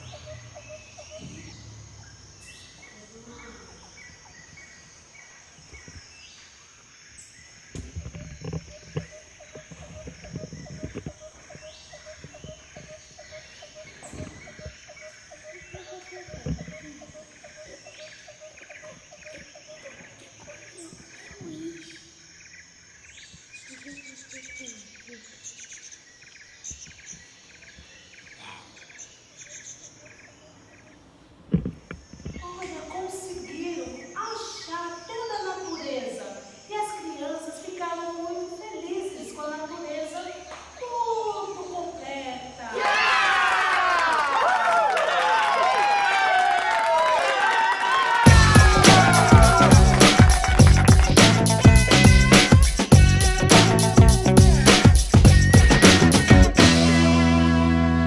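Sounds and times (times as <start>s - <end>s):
pulsing insect chirps: 0.0s - 42.7s, 48.3s - 56.5s
high insect drone: 0.0s - 42.9s, 48.2s - 58.0s.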